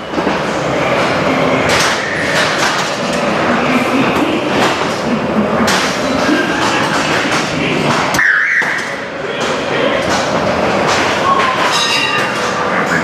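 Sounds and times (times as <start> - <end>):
ride car rumbling and rattling: 0.0 - 13.0.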